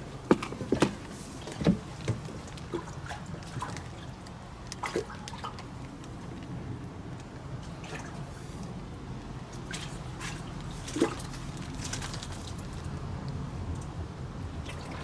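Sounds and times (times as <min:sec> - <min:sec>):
water splashing and dripping: 0:00.3 - 0:15.0.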